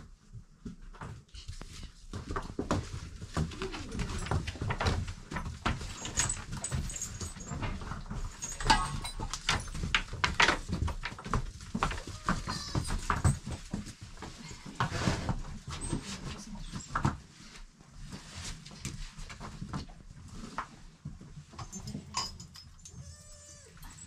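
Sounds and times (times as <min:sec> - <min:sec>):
knocks and rustling in a pen: 0:00.0 - 0:24.0.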